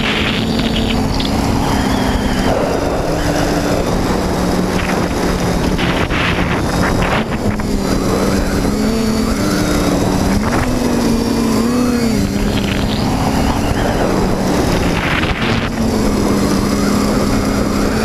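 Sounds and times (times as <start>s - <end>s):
drone propellers whining: 0.0s - 18.0s
wind on microphone: 0.0s - 18.0s.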